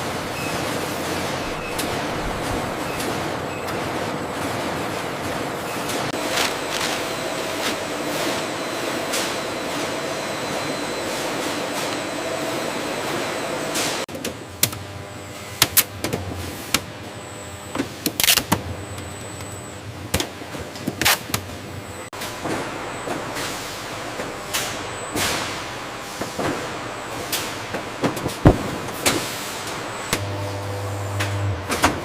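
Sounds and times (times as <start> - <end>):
factory machinery running: 0.0 - 32.0.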